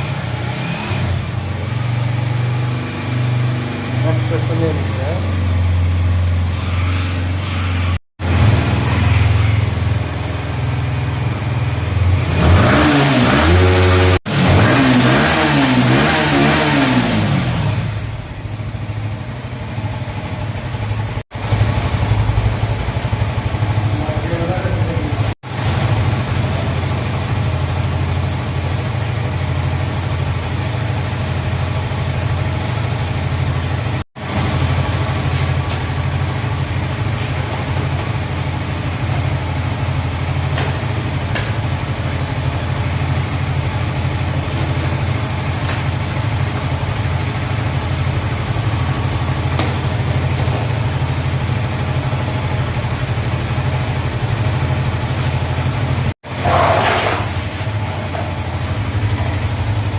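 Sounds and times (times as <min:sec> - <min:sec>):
motorcycle engine idling: 0:00.0 - 0:12.2, 0:17.9 - 0:59.9.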